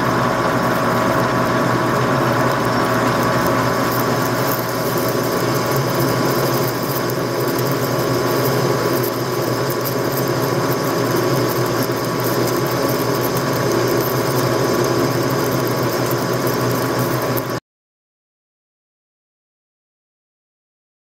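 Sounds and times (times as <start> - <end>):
rotary tool motor hum: 0.0 - 17.6.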